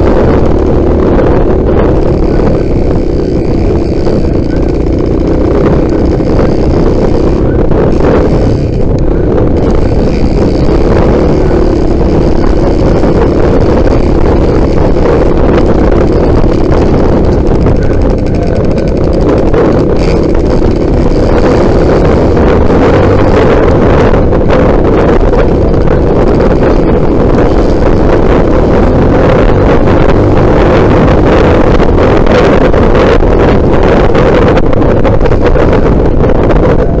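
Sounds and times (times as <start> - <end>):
motorcycle engine running: 0.0 - 37.0
wind rumbling on microphone: 0.0 - 37.0.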